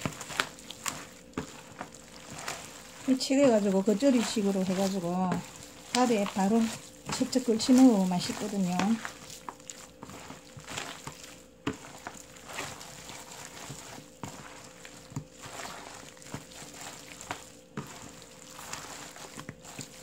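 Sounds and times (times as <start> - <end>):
wet squishing and rustling: 0.0 - 20.0.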